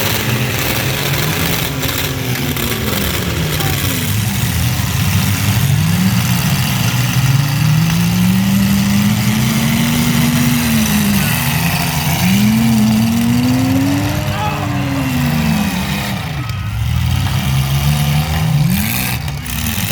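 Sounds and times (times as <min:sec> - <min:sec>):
mini truck engines revving: 0:00.0 - 0:19.9.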